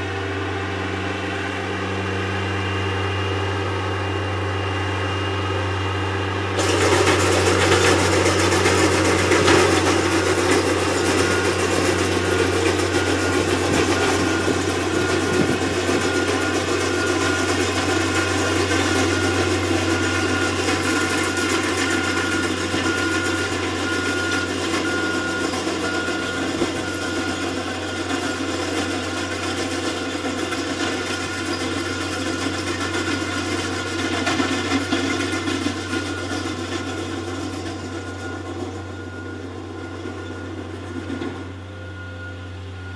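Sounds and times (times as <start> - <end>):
diesel loader engine running: 0.0 - 42.9
reversing alarm beeps: 6.6 - 42.9.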